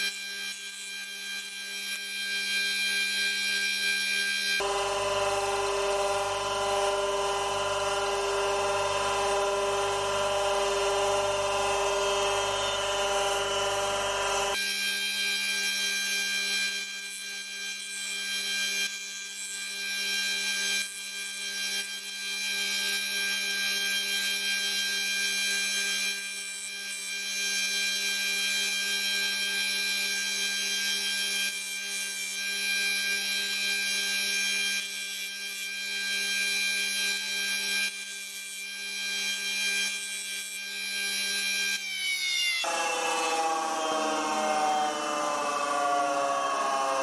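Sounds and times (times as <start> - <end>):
drill bit grinding on wheel: 0.0 - 44.4
bench grinder humming: 0.0 - 47.0.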